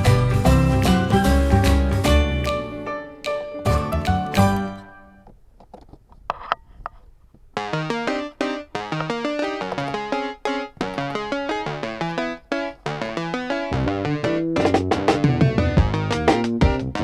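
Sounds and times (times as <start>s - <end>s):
bouncy keyboard melody with beat: 0.0s - 5.2s, 7.6s - 17.0s.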